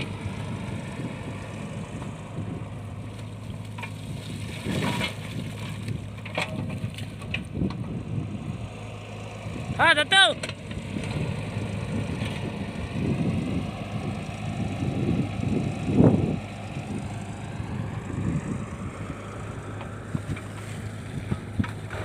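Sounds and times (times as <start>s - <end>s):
wind buffeting microphone: 0.0s - 6.2s, 7.2s - 8.8s, 10.6s - 22.0s
diesel engine running: 0.0s - 22.0s.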